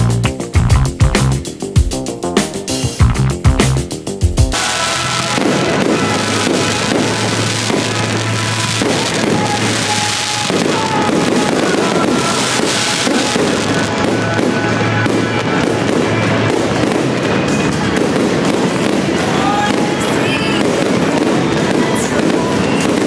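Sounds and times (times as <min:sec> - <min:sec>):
music playing: 0:00.0 - 0:23.0
fireworks popping and crackling: 0:04.5 - 0:23.0.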